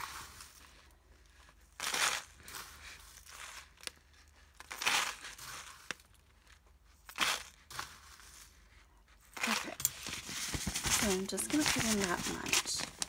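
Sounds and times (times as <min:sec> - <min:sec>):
plastic bag crinkling: 0:00.0 - 0:08.6, 0:09.3 - 0:13.0.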